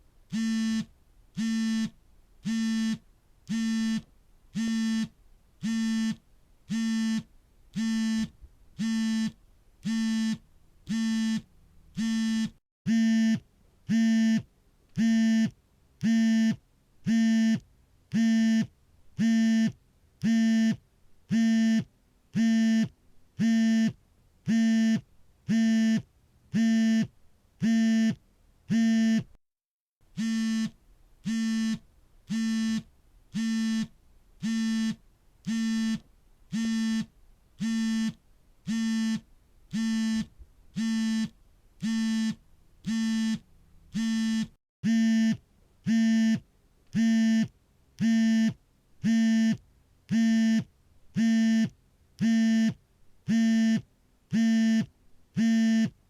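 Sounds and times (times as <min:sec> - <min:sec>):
phone vibrating buzzes: 0:00.3 - 0:29.4, 0:30.1 - 0:56.0.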